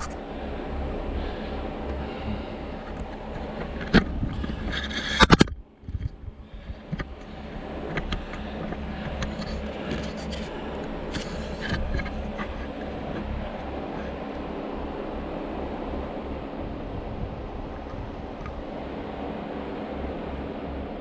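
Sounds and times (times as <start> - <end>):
off-road vehicle running: 0.9 - 19.6.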